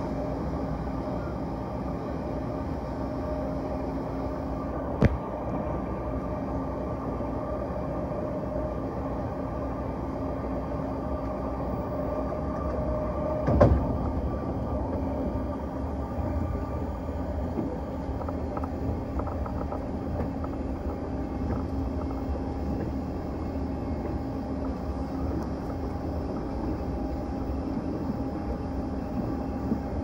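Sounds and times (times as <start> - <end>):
steady hums: 0.0 - 30.0
train rumble on track: 0.0 - 30.0.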